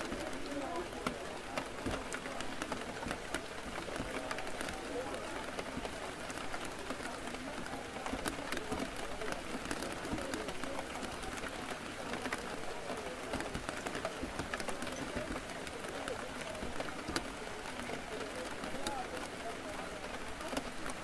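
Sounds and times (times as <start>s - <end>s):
murmur of background chatter: 0.0s - 21.0s
rain tapping on a window: 0.0s - 21.0s.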